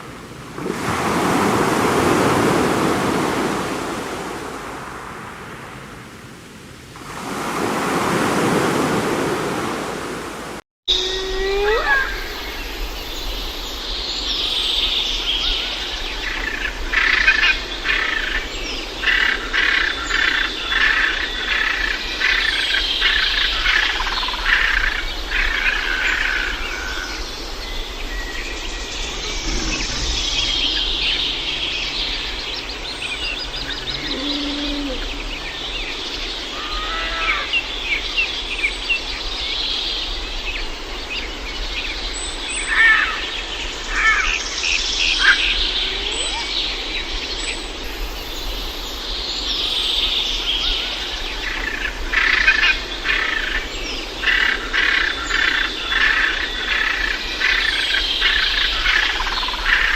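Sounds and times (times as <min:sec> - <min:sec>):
birds singing and chirping: 0:10.9 - 0:59.9.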